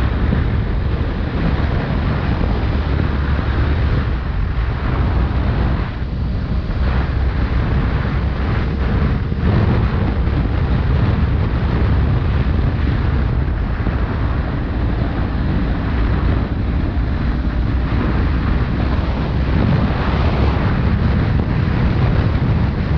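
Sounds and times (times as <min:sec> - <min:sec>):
motorcycle engine running: 0:00.0 - 0:22.9
wind buffeting microphone: 0:00.0 - 0:22.9.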